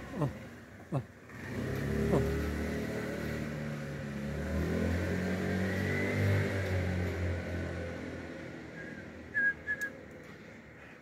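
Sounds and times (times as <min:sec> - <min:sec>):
passing vehicle engine revving: 0:00.0 - 0:10.7.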